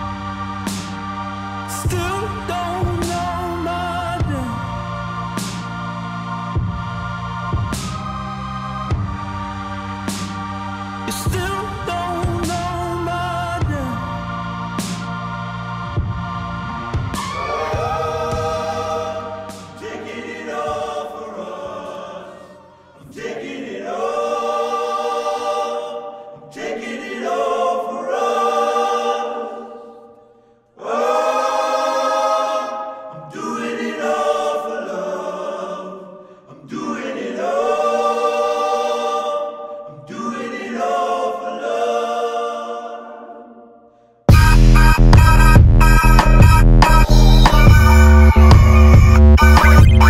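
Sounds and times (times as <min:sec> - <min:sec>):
choir singing held chords: 0:00.0 - 0:50.0.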